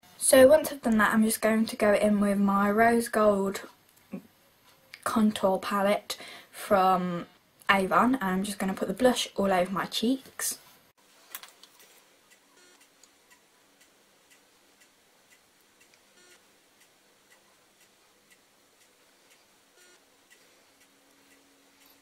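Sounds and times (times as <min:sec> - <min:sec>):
quiet regular ticking: 0:00.2 - 0:22.0.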